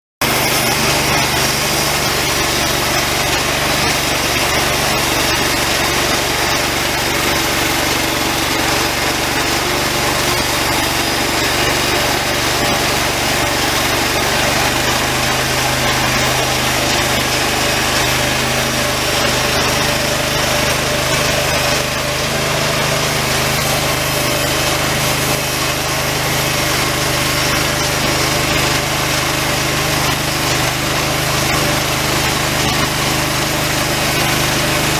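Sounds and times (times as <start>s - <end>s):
band sawmill engine running: 0.2s - 34.9s
saw blade cutting log: 0.2s - 34.9s.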